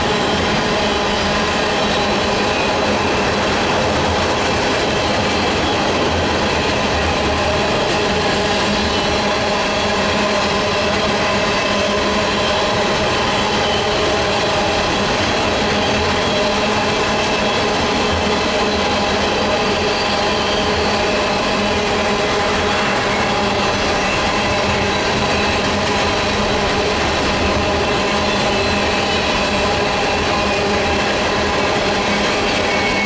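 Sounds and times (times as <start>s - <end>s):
steady high squealing notes: 0.0s - 33.0s
train wheels rumbling on rail: 0.0s - 33.0s.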